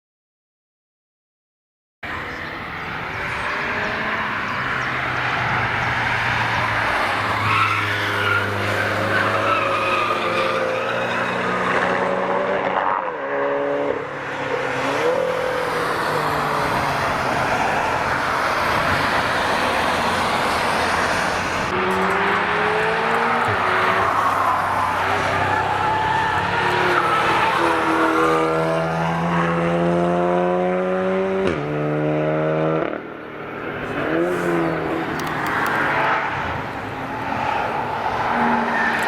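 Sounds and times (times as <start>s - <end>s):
car engines revving hard: 2.1s - 39.0s.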